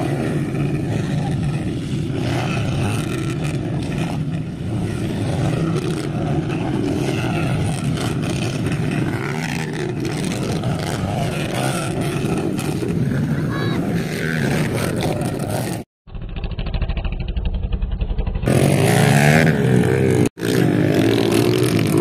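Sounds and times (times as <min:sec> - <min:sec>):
dirt bike engines racing: 0:00.0 - 0:15.9, 0:18.3 - 0:22.0.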